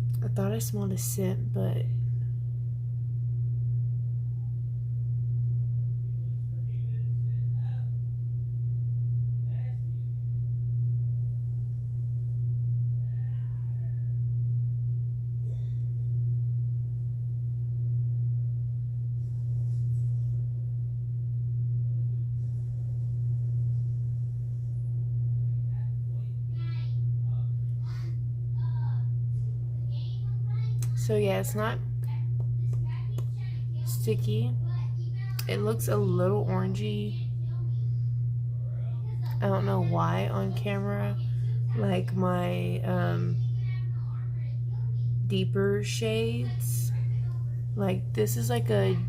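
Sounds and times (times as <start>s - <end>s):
low electrical hum: 0.0s - 49.0s.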